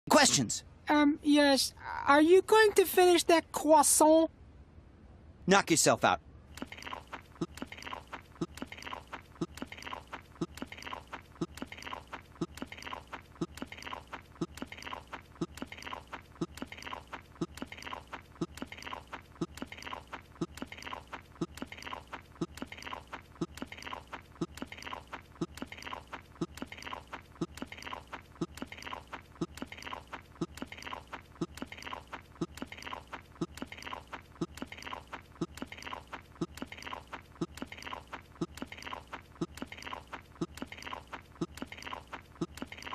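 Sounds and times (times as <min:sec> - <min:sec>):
cartoon open-mouthed chomping: 0:06.5 - 0:42.9.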